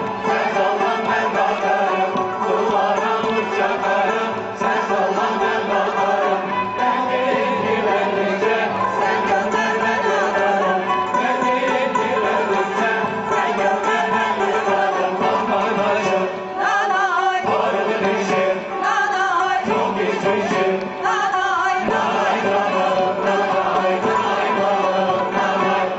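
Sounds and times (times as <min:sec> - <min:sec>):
instrumental accompaniment: 0:00.0 - 0:25.9
mixed choir singing: 0:00.0 - 0:25.9.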